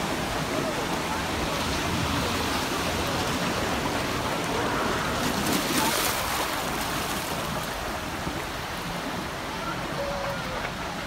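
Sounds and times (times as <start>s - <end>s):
water churning and splashing: 0.0s - 11.0s.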